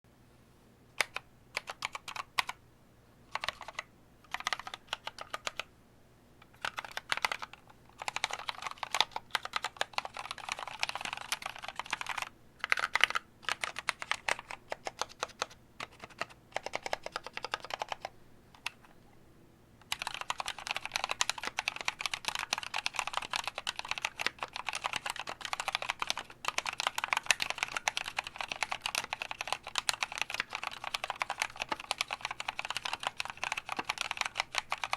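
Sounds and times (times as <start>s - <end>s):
typing on mechanical keyboard: 1.0s - 2.6s, 3.3s - 5.7s, 6.4s - 18.9s, 19.9s - 34.9s.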